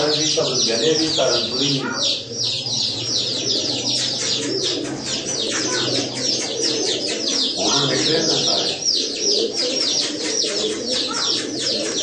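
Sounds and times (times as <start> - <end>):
birds chirping rapidly: 0.0 - 12.0
pigeons cooing: 0.0 - 12.0.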